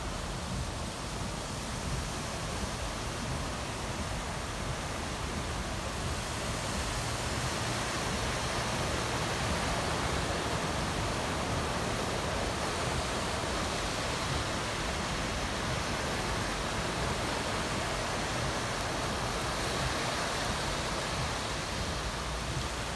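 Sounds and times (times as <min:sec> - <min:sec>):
rain and floodwater hissing: 0:00.0 - 0:22.9
cars driving through water: 0:02.1 - 0:22.9.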